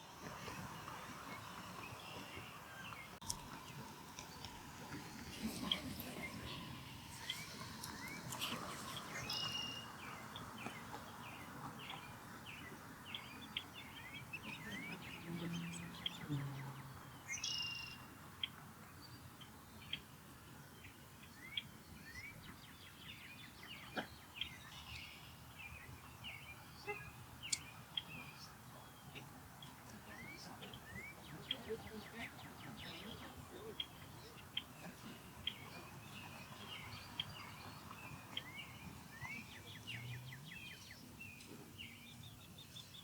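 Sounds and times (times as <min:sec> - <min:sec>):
birds chirping: 0:00.0 - 0:20.1, 0:20.8 - 0:43.0.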